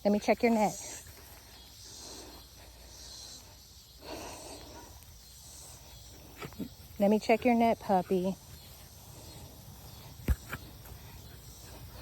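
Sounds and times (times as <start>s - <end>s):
insects chirping: 0.0s - 12.0s
faint breathing: 0.7s - 7.0s, 8.3s - 12.0s.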